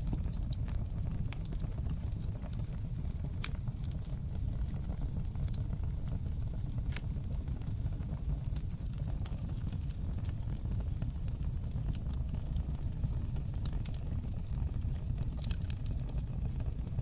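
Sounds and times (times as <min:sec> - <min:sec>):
fire crackling: 0:00.0 - 0:17.0
low rumble of flames: 0:00.0 - 0:17.0.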